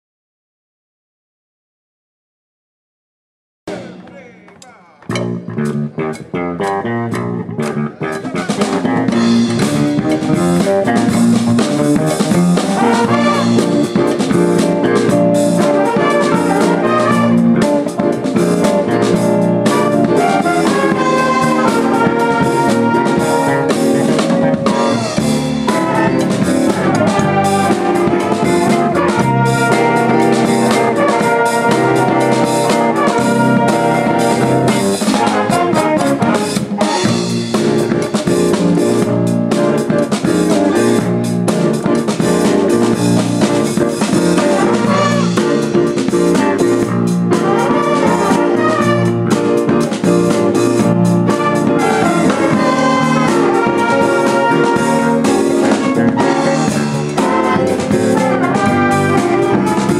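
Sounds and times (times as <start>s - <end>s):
bass guitar: 3.7s - 59.9s
drum kit beat: 3.7s - 59.9s
electric guitar: 5.0s - 59.9s
horn-like melody: 9.0s - 59.9s.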